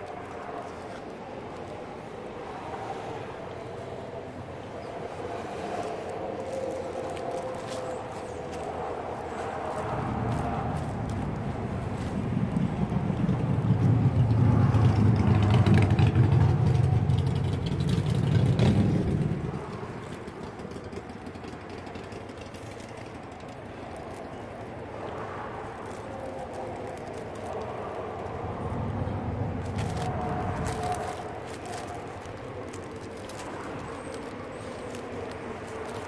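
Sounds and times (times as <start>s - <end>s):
motor vehicle rumbling: 0.0s - 36.0s
outdoor background: 0.0s - 36.0s.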